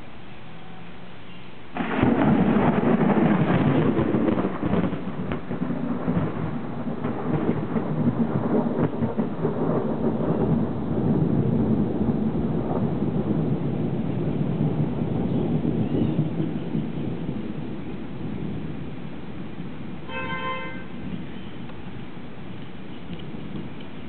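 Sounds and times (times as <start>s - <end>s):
thunder crackling and rumbling: 1.7s - 24.0s.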